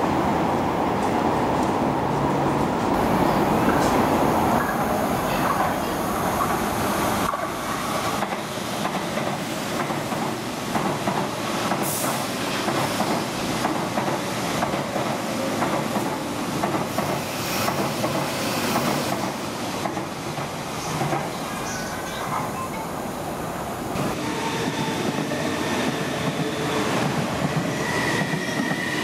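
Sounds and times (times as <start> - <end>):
train wheels rumbling on rail: 0.1 - 22.8, 24.0 - 29.0.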